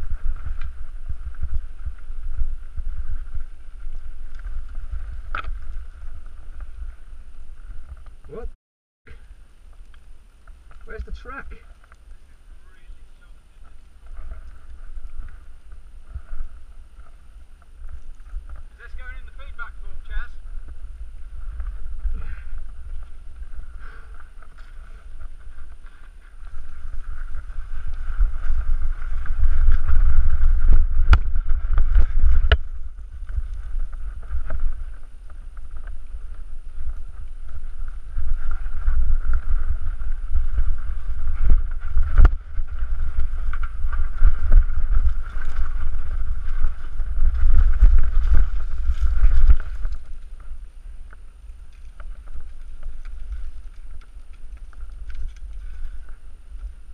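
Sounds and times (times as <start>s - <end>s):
mountain bike rattling: 0.0s - 8.4s, 9.7s - 56.9s
wind rumble on microphone: 0.0s - 8.5s, 9.1s - 56.9s.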